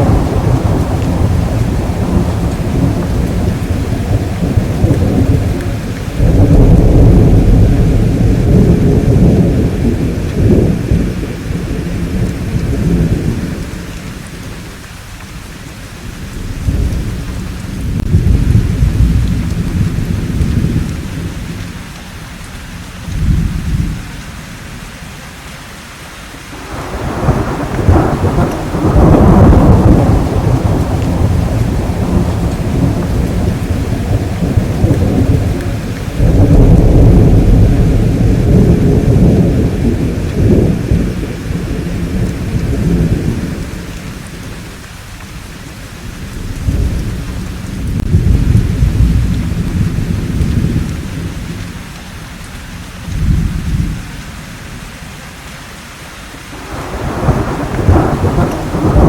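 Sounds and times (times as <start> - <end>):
deep rolling thunder: 0.0 - 14.8, 16.0 - 22.0, 22.6 - 24.8, 26.6 - 54.8, 56.6 - 59.0
steady rainfall: 0.0 - 59.0.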